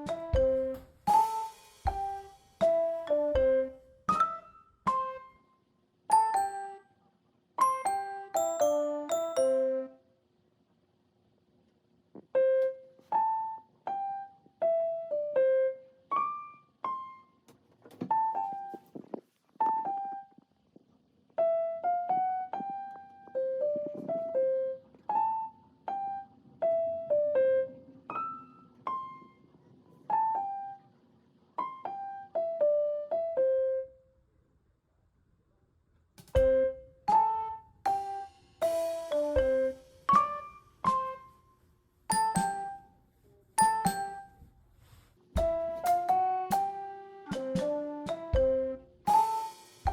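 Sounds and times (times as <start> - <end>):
piano-like melody: 0.0 - 7.0, 7.6 - 10.1, 12.2 - 19.0, 19.6 - 20.5, 21.3 - 30.9, 31.6 - 34.1, 36.3 - 43.0, 43.6 - 44.5, 45.4 - 49.9.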